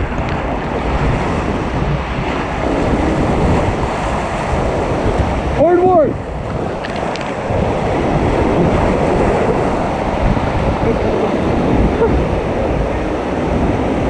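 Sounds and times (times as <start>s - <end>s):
whitewater rushing and splashing: 0.0s - 14.0s
wind on microphone: 0.0s - 14.0s.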